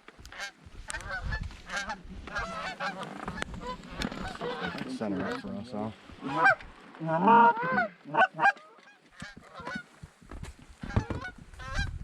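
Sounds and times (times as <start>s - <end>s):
geese honking and clucking: 0.3s - 9.9s, 10.8s - 12.0s.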